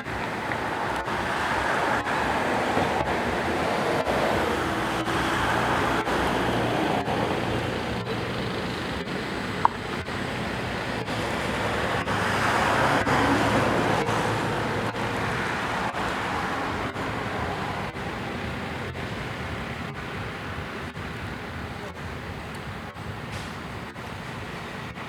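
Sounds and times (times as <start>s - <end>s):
rushing background noise: 0.0s - 25.0s.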